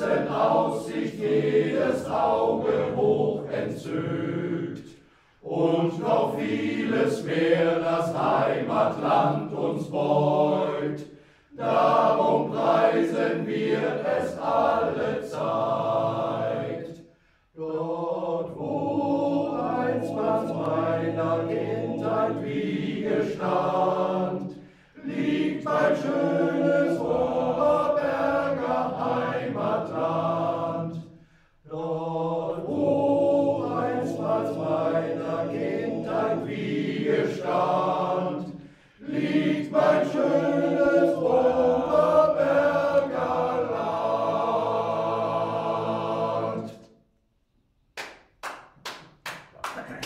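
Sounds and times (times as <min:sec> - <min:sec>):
men's choir singing: 0:00.0 - 0:47.0.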